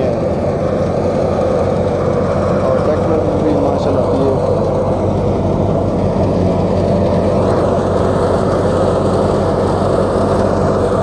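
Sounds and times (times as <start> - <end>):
diesel engine drone: 0.0 - 11.0
thresher drum and blower hum: 0.0 - 11.0.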